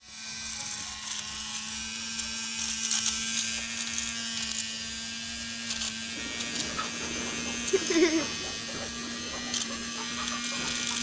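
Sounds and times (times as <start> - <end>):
vacuum cleaner motor buzzing: 0.0 - 11.0.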